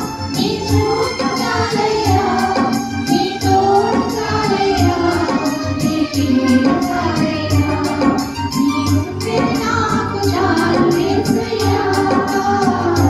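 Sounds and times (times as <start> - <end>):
instrumental music with beat: 0.0 - 13.0
women singing together: 0.0 - 13.0.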